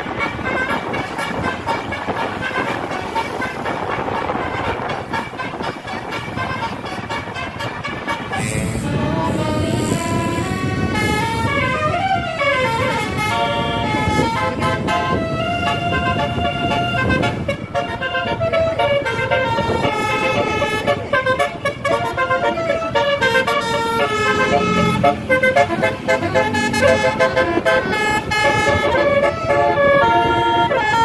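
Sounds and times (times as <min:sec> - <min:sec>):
multi-tone bus horn melody: 0:00.0 - 0:31.0
running vehicle noise: 0:00.0 - 0:31.0.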